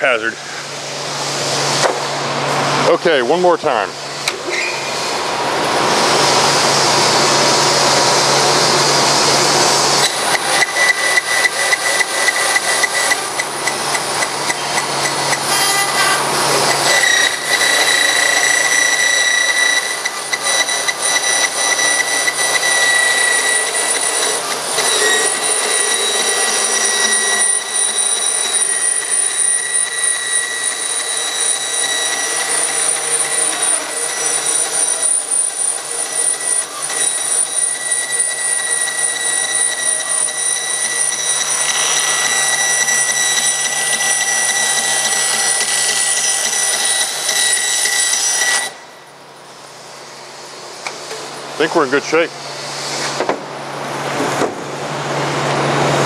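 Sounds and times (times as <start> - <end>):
bandsaw running high tone: 4.9 - 50.0.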